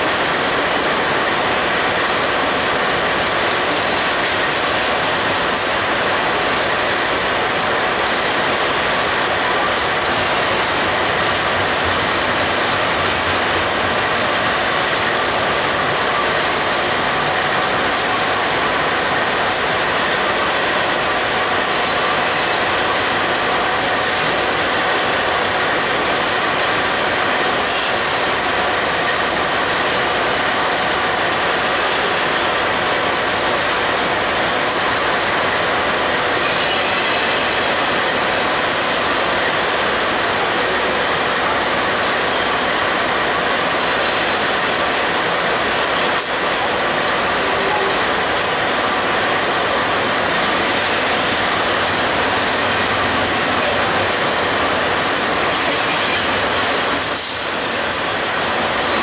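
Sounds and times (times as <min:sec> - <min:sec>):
steel wheels rushing on rail: 0:00.0 - 0:59.0.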